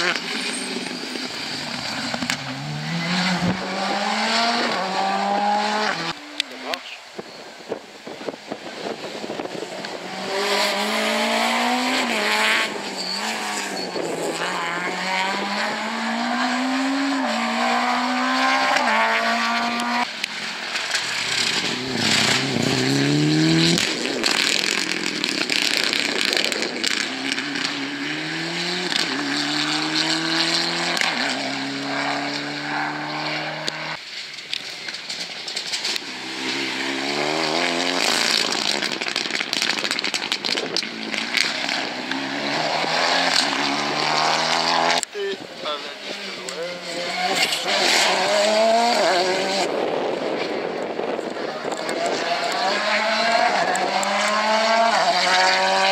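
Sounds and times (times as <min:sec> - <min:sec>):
rally cars accelerating hard: 0:00.0 - 0:07.0, 0:08.0 - 0:34.2, 0:35.1 - 0:55.9.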